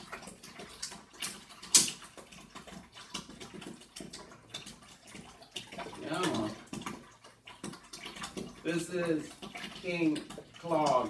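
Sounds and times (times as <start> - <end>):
faint liquid trickle: 0.0 - 11.0.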